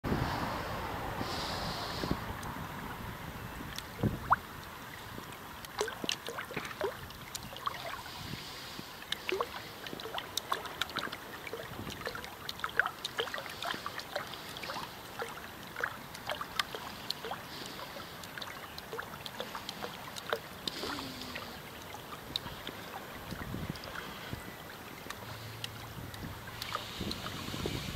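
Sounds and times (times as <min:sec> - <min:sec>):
trickle of flowing water: 0:00.2 - 0:27.9
turbine blades slapping water: 0:00.8 - 0:27.9
water drips plinking: 0:03.6 - 0:08.1, 0:09.0 - 0:27.4.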